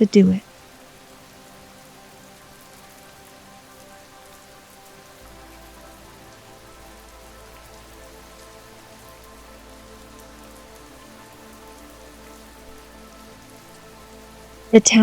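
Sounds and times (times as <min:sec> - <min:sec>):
faint sustained tones: 0:00.0 - 0:15.0
rain falling on a surface: 0:00.0 - 0:15.0.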